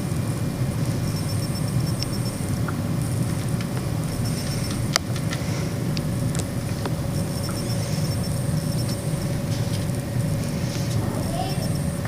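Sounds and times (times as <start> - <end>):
low machine hum with whine: 0.0 - 12.0.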